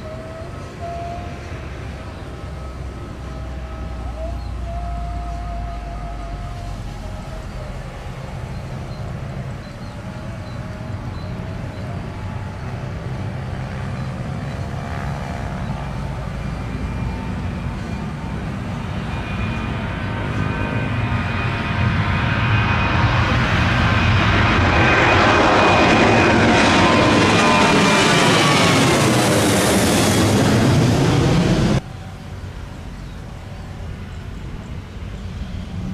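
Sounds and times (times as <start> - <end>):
high jet fan whine: 0.0 - 35.9
jet airliner taking off: 0.0 - 35.9.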